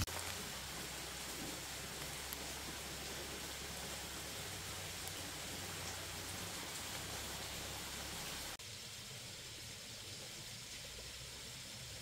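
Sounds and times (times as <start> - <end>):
hiss-like background noise: 0.0 - 12.0.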